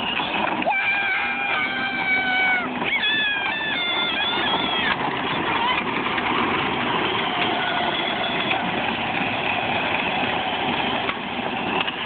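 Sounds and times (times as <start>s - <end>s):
plastic wheels rumbling on asphalt: 0.0s - 12.0s.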